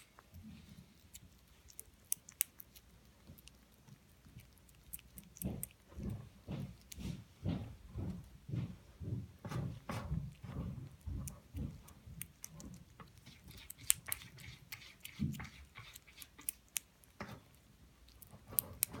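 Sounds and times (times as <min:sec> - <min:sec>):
cats chewing softly: 0:00.0 - 0:19.0.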